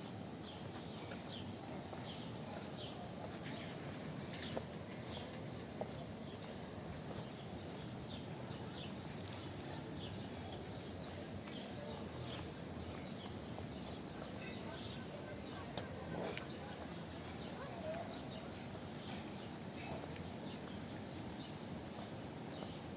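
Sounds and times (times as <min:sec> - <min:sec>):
small birds chirping: 0:00.2 - 0:22.9.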